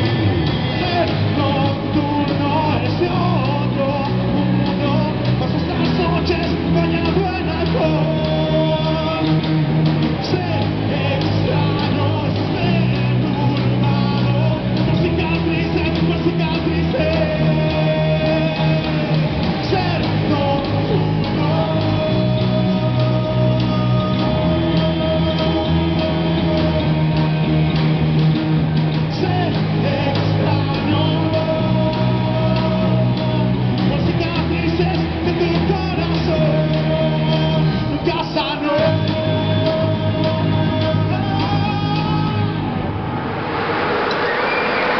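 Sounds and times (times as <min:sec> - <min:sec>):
bass guitar: 0:00.0 - 0:44.9
drum kit: 0:00.0 - 0:44.9
electric guitars: 0:00.0 - 0:44.9
rock band playing live: 0:00.0 - 0:44.9.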